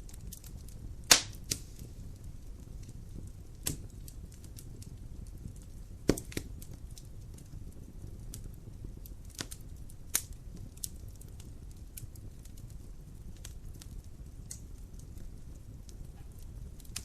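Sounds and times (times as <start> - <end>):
fire pops and snaps: 0.0 - 17.0
low rumble of burning: 0.0 - 17.0.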